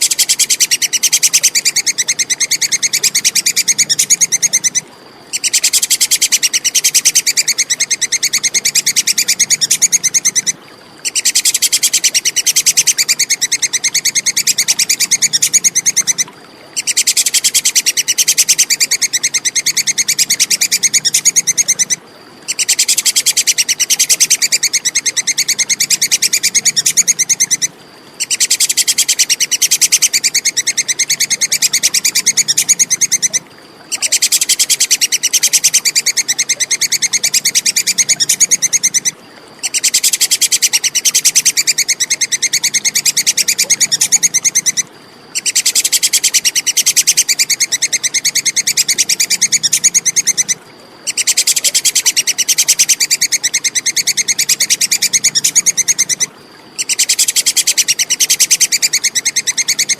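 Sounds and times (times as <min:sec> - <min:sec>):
squirrel chattering: 0:00.0 - 0:16.2, 0:16.8 - 0:59.9.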